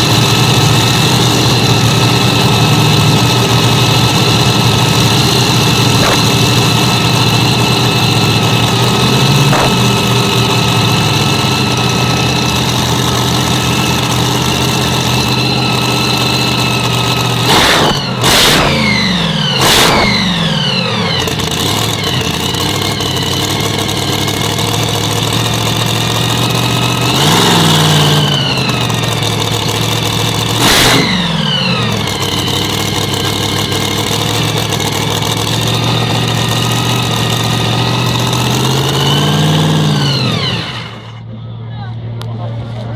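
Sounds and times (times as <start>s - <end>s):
engine idling with throttle blips: 0.0s - 42.9s.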